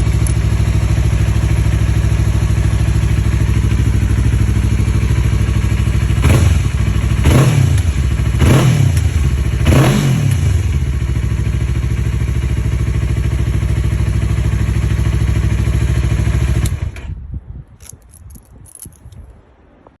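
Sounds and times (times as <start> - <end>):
motorcycle engine idling and blipped: 0.0 - 17.3.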